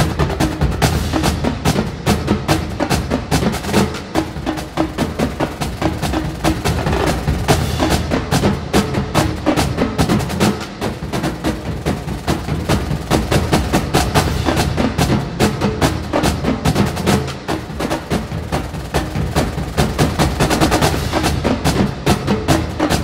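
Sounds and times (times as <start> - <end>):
soundtrack music with fast percussion: 0.0 - 23.0.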